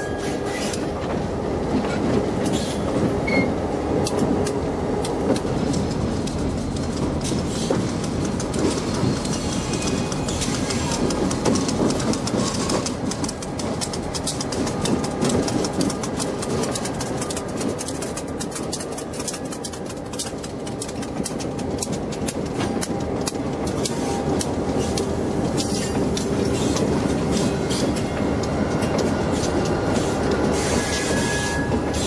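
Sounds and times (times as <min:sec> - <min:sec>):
diesel locomotive engine rumble: 0:00.0 - 0:32.0
wheels clicking over rail joints: 0:00.3 - 0:32.0.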